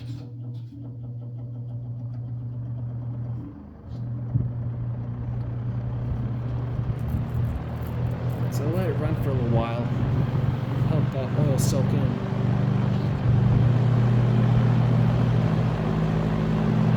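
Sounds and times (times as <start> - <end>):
electric fan motor humming: 0.0 - 16.9.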